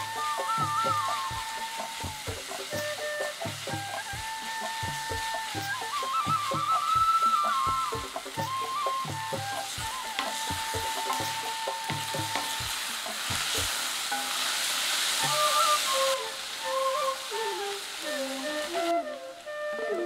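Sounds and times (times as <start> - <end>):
wooden spatula stirring in pan: 0.0 - 19.6
onions sizzling in oil: 0.0 - 20.0
soft flute music: 0.0 - 20.0.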